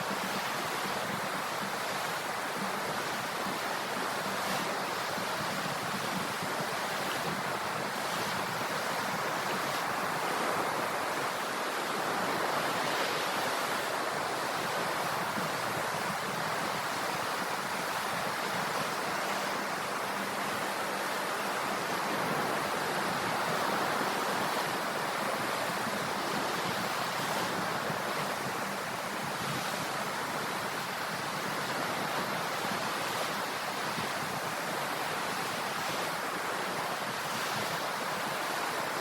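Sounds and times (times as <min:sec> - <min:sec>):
sea waves hissing surf: 0:00.0 - 0:39.0.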